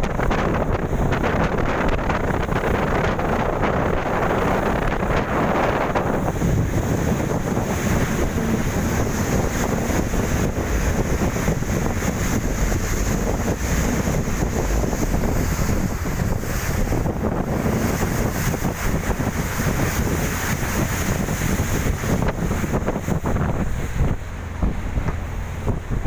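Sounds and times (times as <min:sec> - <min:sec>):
boat engine low rumble: 0:00.0 - 0:26.0
rush of wind and water: 0:00.0 - 0:26.0
wind buffeting microphone: 0:00.0 - 0:26.0.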